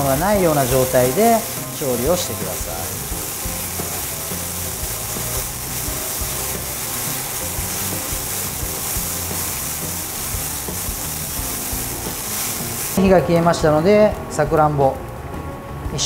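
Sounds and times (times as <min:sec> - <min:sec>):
wine boiling and sizzling in a pan: 0:00.0 - 0:13.0.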